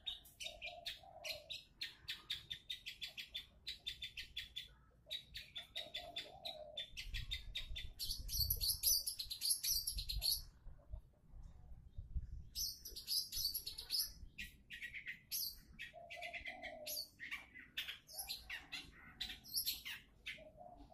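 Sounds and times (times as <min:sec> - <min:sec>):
bird chattering song: 0:00.0 - 0:10.6, 0:12.5 - 0:20.9.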